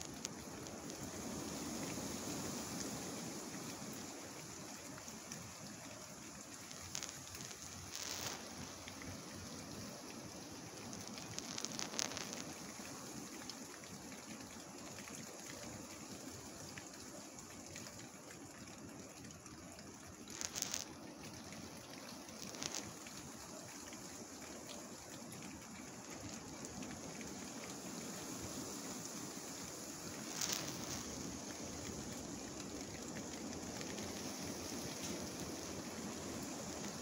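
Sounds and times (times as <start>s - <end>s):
wind rustling leaves: 0.0s - 37.0s.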